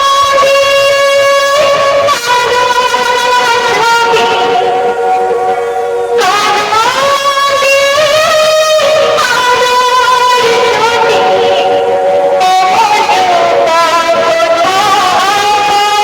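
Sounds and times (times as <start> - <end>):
loud music over sound system: 0.0 - 16.0.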